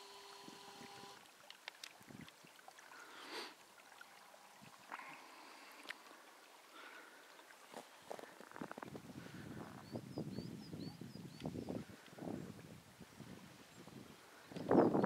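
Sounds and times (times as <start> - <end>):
stream trickling and gurgling: 0.0 - 15.0.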